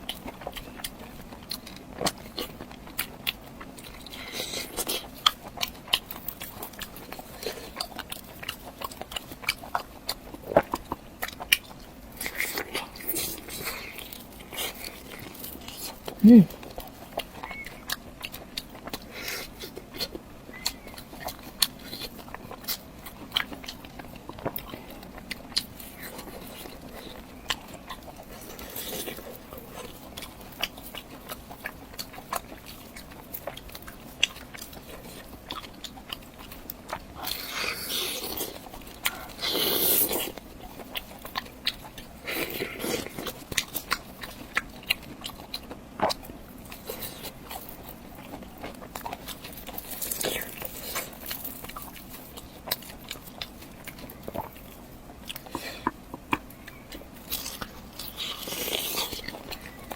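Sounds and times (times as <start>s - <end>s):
person chewing and biting: 0.0s - 59.9s.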